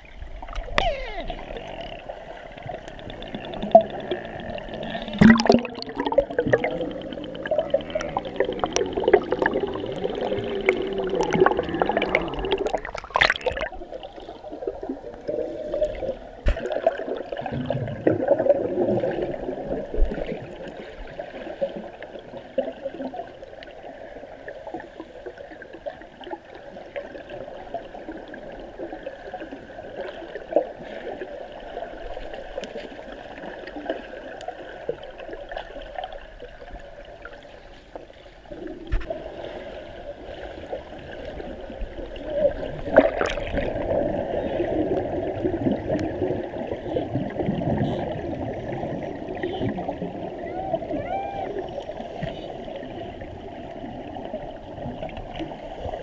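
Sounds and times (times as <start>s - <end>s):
water gurgling and bubbling: 0.0s - 37.5s, 38.4s - 56.0s.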